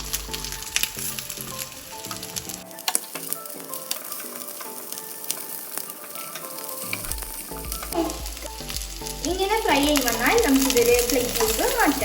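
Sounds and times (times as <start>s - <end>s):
background melody: 0.0s - 12.0s
chicken sizzling in a pan: 0.0s - 12.0s.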